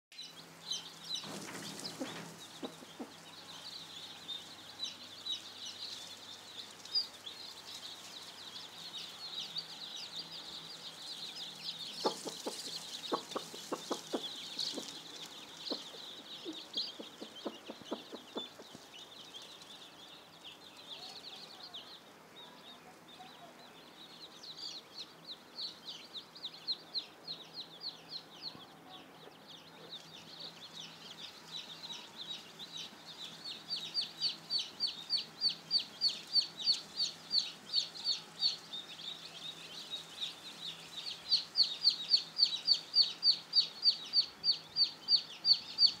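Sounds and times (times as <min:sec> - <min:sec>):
chicks peeping: 0:00.1 - 0:46.0.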